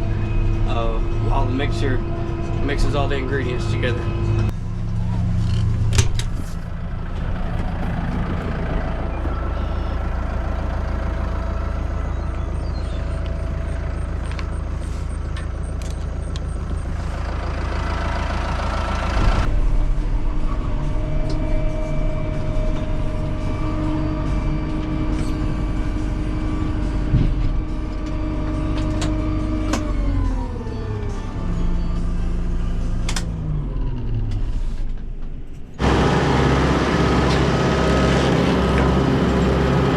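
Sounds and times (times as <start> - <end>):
farm machinery engine running: 0.0 - 34.8, 35.7 - 39.9.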